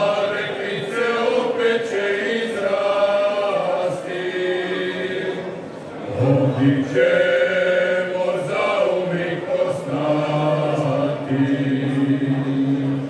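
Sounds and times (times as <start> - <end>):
men's group singing a cappella: 0.0 - 13.0.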